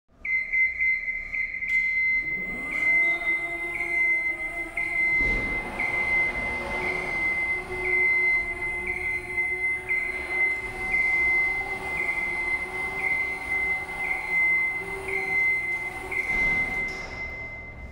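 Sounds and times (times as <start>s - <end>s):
motion alarm beeping: 0.2s - 17.9s
hydraulic pump motor whining: 2.2s - 17.9s.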